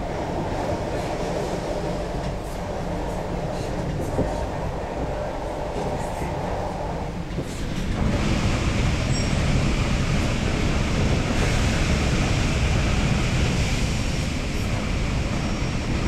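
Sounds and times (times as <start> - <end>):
train rumbling in tunnel: 0.0 - 16.0.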